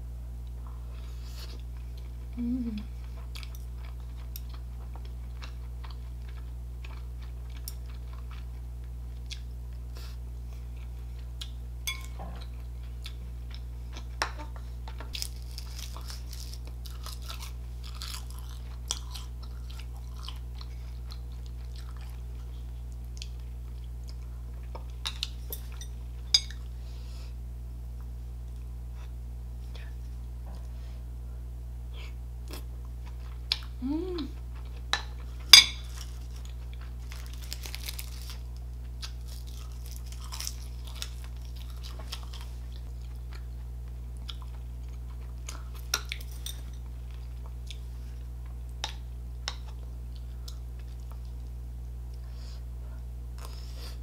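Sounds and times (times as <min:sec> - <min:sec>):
steady low hum: 0:00.0 - 0:54.0
chewing with crisp crunching: 0:00.4 - 0:27.3, 0:31.9 - 0:54.0.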